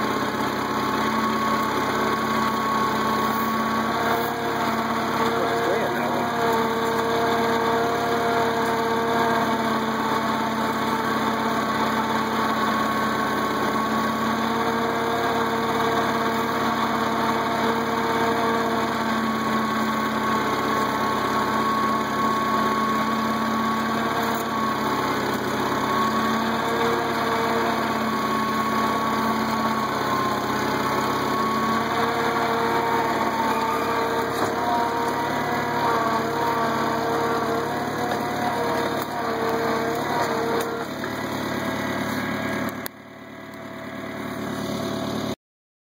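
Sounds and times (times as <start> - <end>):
tractor engine running at low speed: 0.0 - 45.4.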